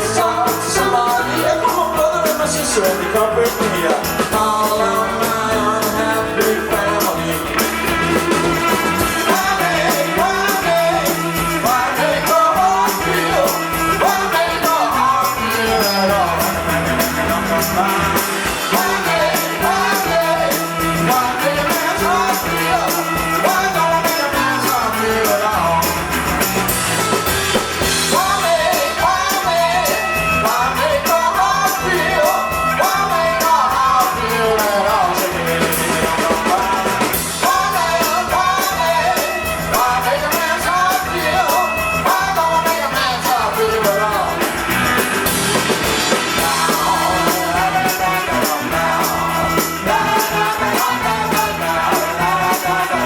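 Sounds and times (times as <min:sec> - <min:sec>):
drum kit: 0:00.0 - 0:53.0
live rock band playing: 0:00.0 - 0:53.0.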